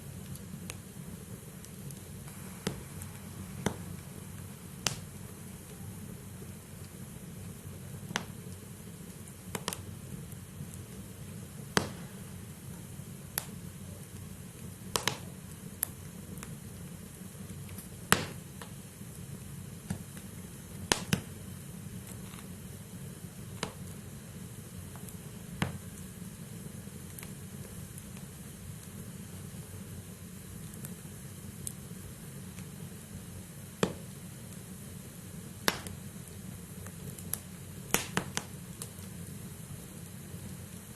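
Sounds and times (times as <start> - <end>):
fire rumbling: 0.0 - 40.9
logs crackling and popping: 0.0 - 40.9.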